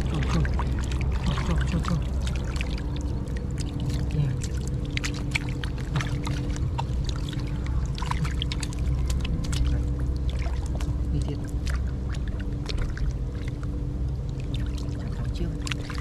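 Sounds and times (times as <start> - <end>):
hands sloshing in muddy water: 0.0 - 16.0
low drone: 0.0 - 16.0.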